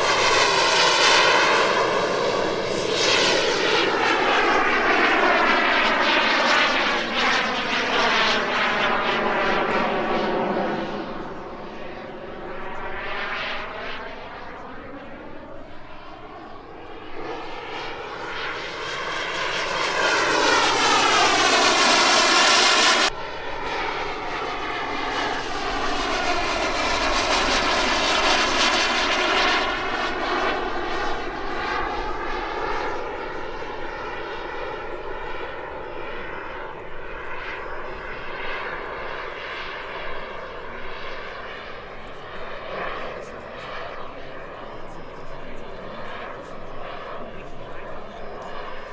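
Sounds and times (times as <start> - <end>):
model jet turbine flying past: 0.0 - 48.9.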